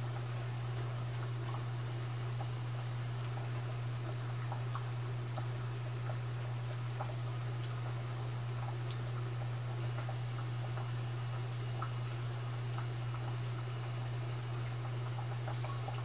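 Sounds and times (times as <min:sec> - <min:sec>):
pot of rice boiling: 0:00.0 - 0:16.0
steady low hum: 0:00.0 - 0:16.0.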